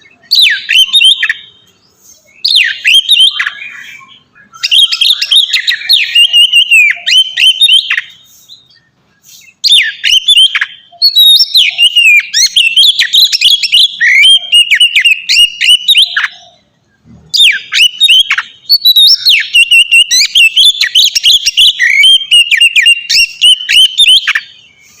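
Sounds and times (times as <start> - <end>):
bird singing whistles and chirps: 0.0 - 25.0.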